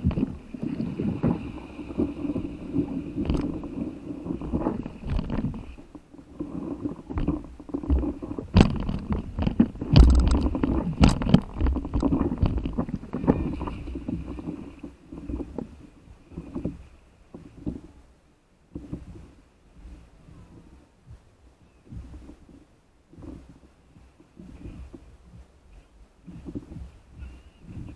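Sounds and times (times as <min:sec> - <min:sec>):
water rushing against paddle board: 0:00.0 - 0:27.9.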